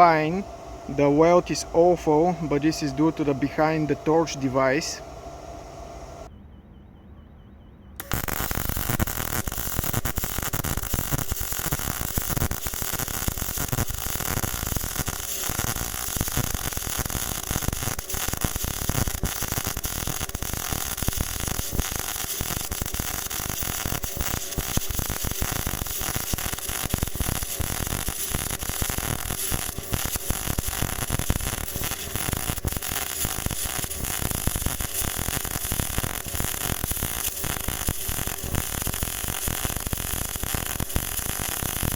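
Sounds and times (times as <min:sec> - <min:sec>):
welding arc crackling and buzzing: 0:00.0 - 0:06.3, 0:08.0 - 0:41.9.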